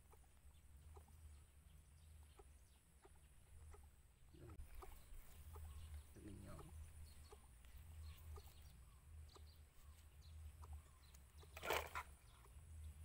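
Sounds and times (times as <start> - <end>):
chicken clucking: 0.0 - 1.4, 2.0 - 12.7.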